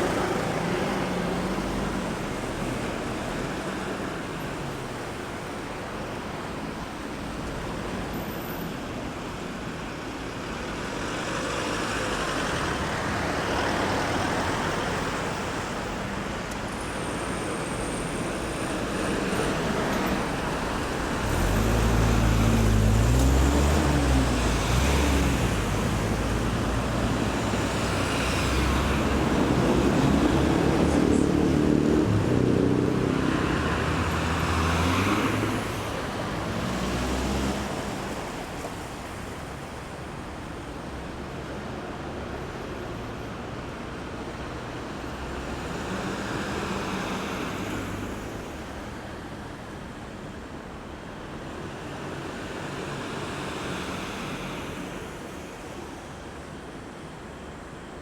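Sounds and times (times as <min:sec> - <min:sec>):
cars passing with tyre hiss: 0:00.0 - 0:58.0.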